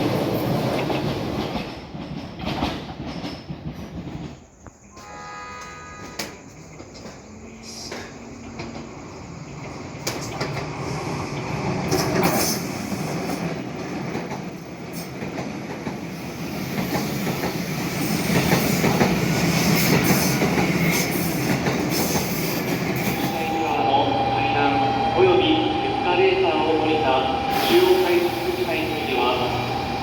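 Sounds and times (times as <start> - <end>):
train wheels clacking on rails: 0.0 - 5.1, 6.0 - 30.0.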